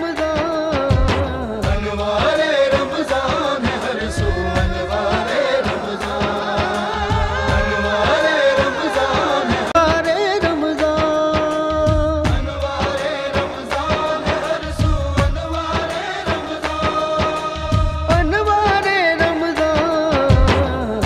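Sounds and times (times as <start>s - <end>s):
drums: 0.0s - 21.0s
person singing: 0.0s - 21.0s.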